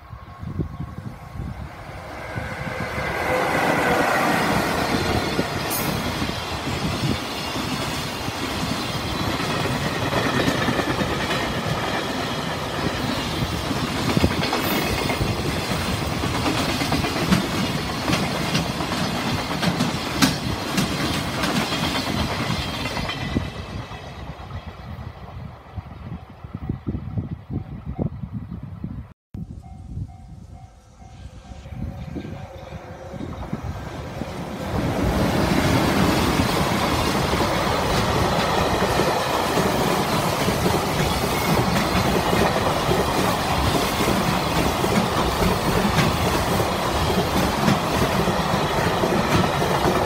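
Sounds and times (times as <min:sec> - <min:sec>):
electric freight train passing: 0:00.0 - 0:50.0.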